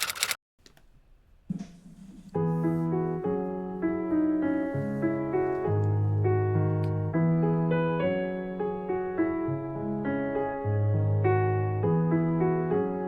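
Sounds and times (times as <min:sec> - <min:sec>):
piano chords: 0:02.4 - 0:13.0.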